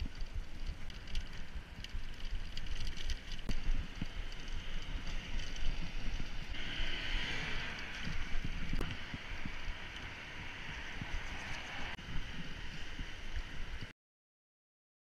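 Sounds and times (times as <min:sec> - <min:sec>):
tyres rumbling on road: 0:00.0 - 0:13.8
wind buffeting microphone: 0:00.0 - 0:13.9.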